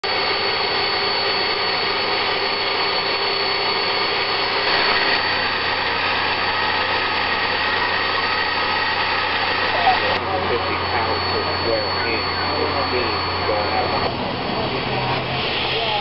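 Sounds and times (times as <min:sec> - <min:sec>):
steam locomotive hissing: 0:00.5 - 0:16.0.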